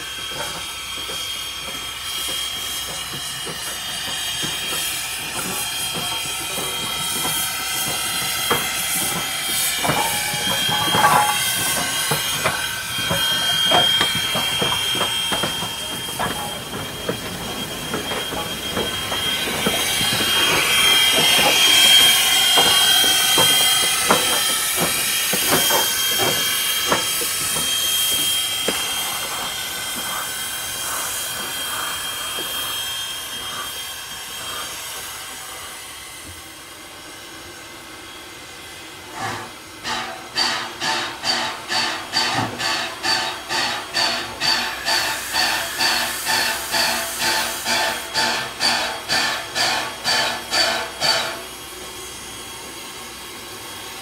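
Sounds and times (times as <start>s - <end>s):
train wheels clanking: 0.0s - 36.4s, 39.1s - 51.7s
steam hissing: 0.0s - 54.0s.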